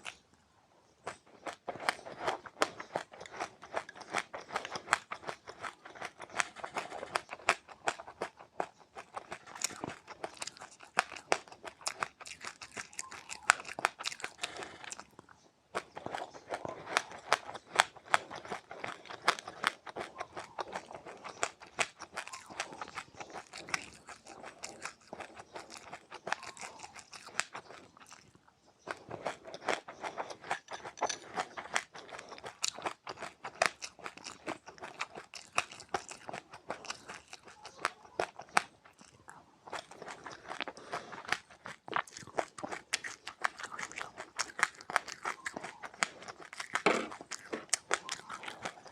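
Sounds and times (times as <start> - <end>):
chewing crunchy seeds: 0.0 - 48.9.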